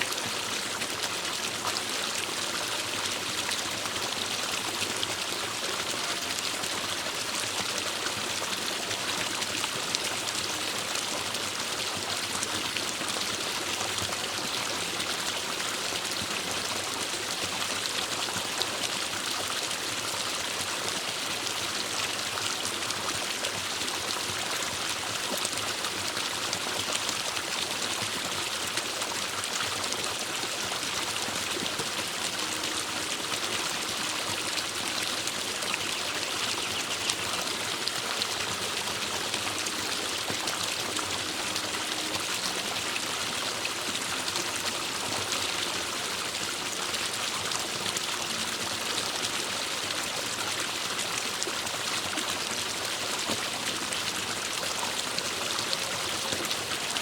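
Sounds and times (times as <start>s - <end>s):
stream splashing over rocks: 0.0s - 57.0s.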